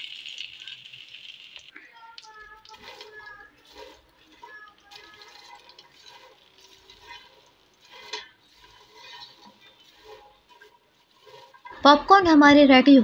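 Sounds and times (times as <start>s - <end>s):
spatula stirring popcorn in pot: 0.0s - 12.4s.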